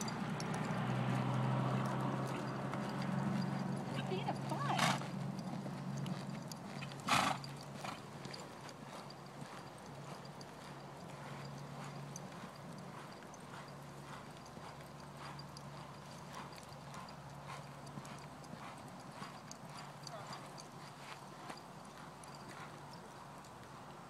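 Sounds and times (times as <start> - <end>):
hoofbeats on sand: 0.0 - 24.0.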